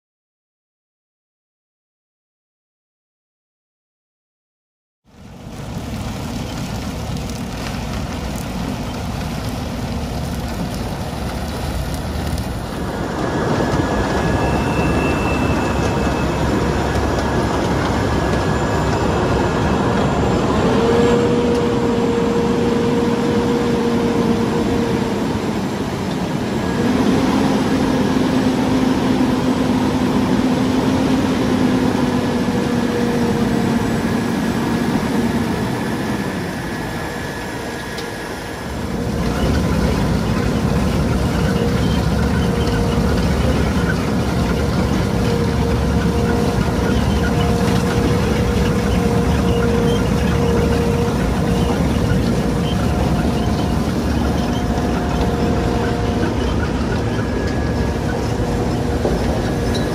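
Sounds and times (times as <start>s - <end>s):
heavy machinery engine: 5.1s - 59.9s.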